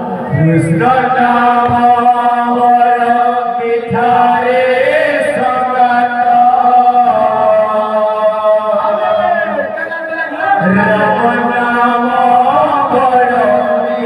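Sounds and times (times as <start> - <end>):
men singing a chant: 0.0 - 14.0.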